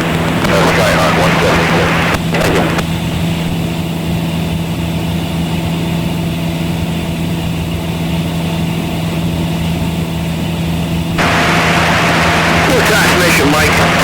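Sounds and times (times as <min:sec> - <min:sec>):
airplane engine and propeller drone: 0:00.0 - 0:14.0.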